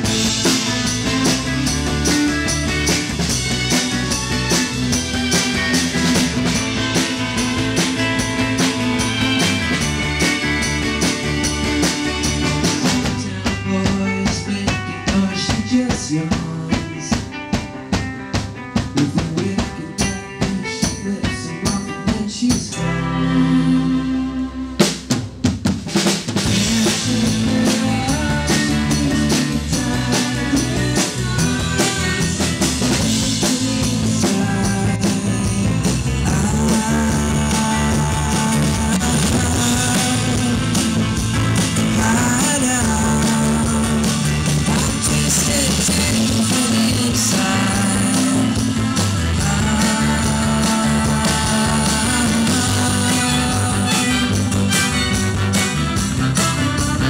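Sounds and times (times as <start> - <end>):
live band with strings: 0.0 - 57.0.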